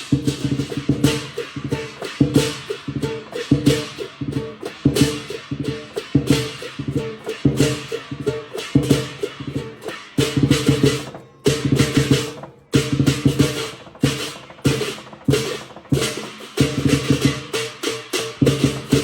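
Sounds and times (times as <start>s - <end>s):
crashing cymbals: 0.0s - 19.0s
drum beating: 0.0s - 19.0s.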